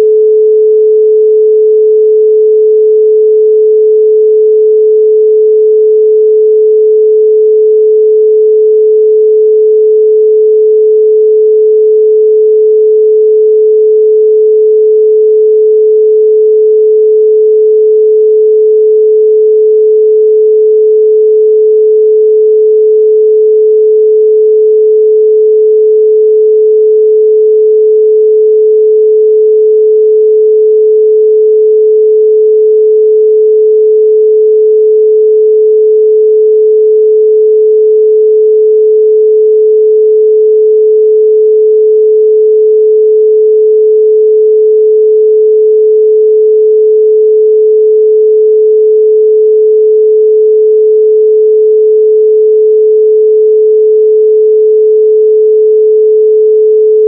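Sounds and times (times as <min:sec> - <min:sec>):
pure sine tone: 0:00.0 - 0:57.0.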